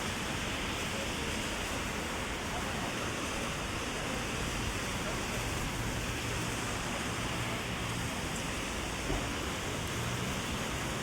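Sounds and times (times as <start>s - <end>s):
heavy rain on street and umbrella: 0.0s - 11.0s.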